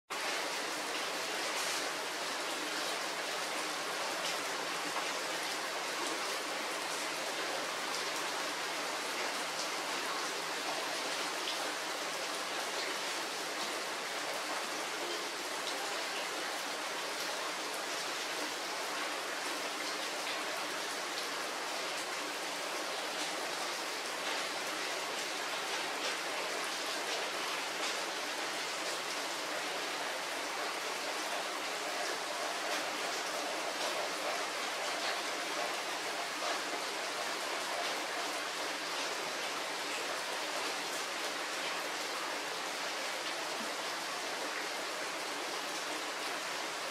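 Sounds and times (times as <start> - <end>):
steady rain hiss: 0.1 - 46.9.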